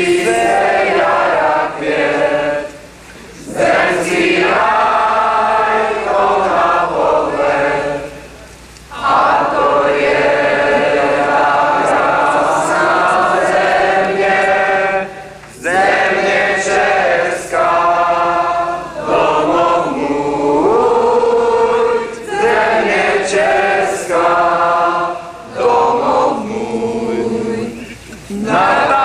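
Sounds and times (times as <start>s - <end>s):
crowd singing in unison: 0.0s - 29.0s.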